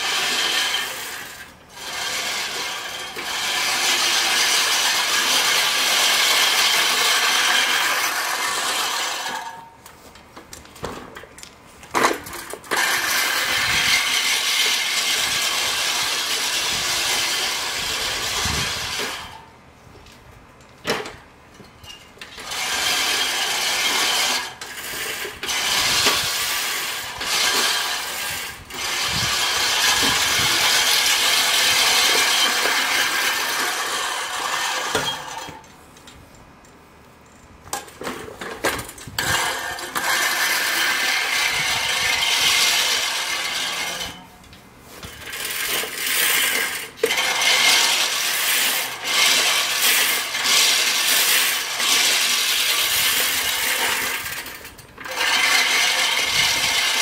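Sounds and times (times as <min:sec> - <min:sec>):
reel mower blades whirring: 0:00.0 - 0:57.0.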